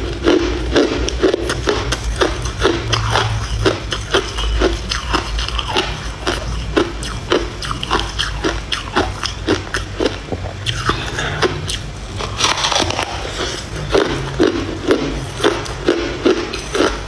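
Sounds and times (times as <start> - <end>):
teeth crunching ice: 0.1 - 17.0.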